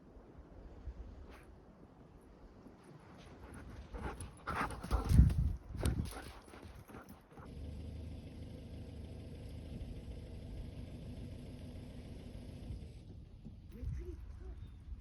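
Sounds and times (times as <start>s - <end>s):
road rumble: 0.0s - 15.0s.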